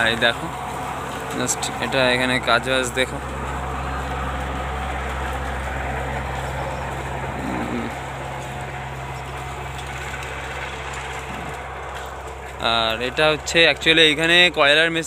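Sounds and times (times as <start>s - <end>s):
machine low mechanical hum: 0.0s - 15.0s.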